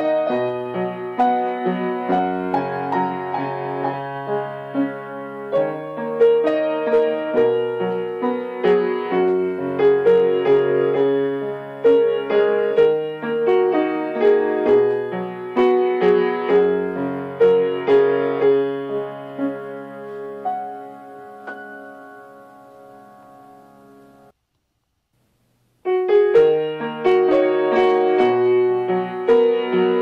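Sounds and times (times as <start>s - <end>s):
piano music: 0.0s - 24.4s, 25.8s - 30.0s.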